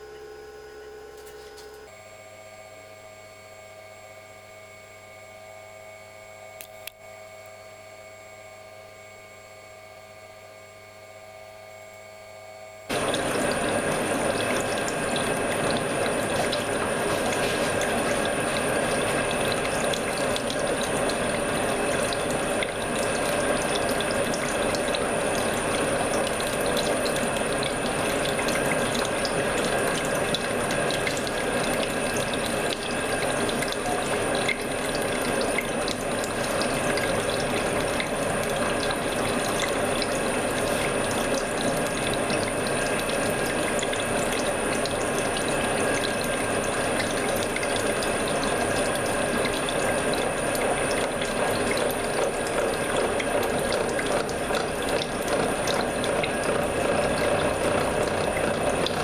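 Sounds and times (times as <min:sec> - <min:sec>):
high machine whine: 0:00.0 - 0:59.0.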